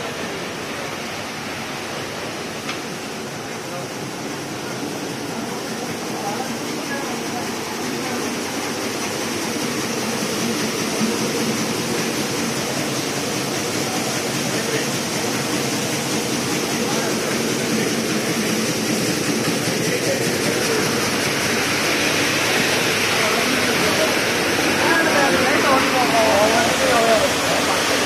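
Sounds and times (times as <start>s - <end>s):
grading machine rattling: 3.4s - 28.0s.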